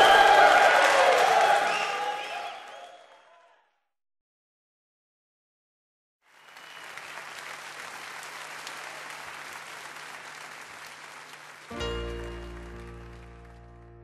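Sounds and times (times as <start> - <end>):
audience applause: 0.0 - 3.5, 6.3 - 14.0.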